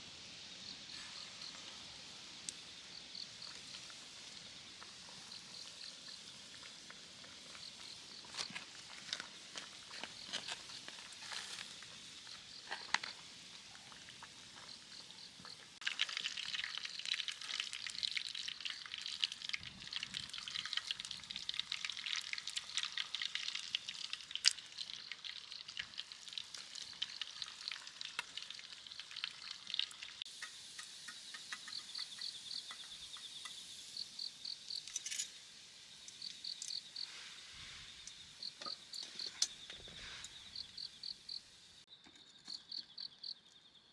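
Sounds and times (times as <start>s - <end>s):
food sizzling over fire: 0.0s - 41.9s
insects chirping in trills: 0.3s - 15.8s, 20.0s - 43.9s.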